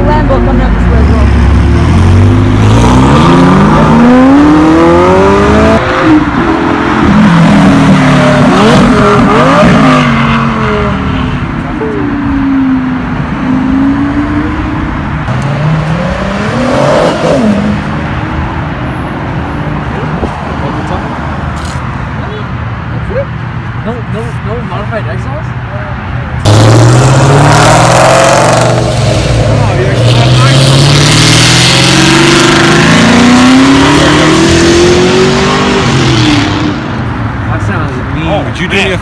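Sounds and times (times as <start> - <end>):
car engine revving: 0.0 - 21.8, 26.4 - 39.0.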